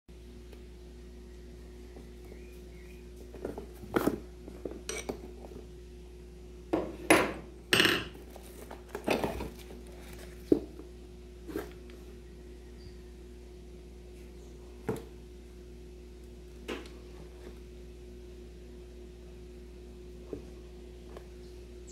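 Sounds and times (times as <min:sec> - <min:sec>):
faint steady hum: 0:00.1 - 0:21.9.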